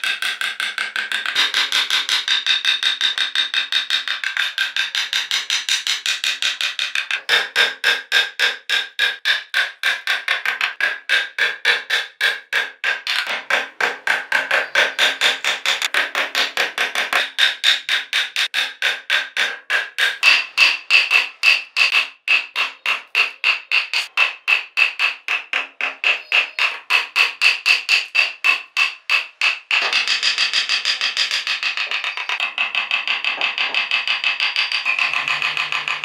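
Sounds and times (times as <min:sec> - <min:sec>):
chisel tapping into wood: 0:00.0 - 0:36.0.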